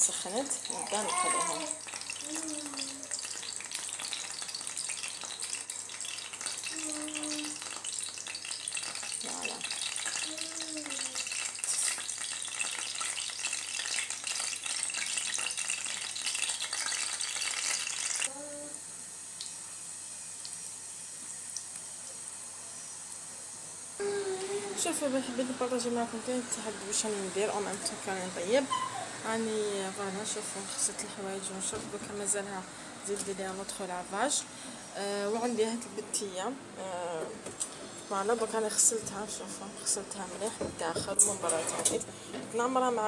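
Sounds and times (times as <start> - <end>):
food sizzling in hot oil: 0.0 - 34.4, 38.1 - 43.0.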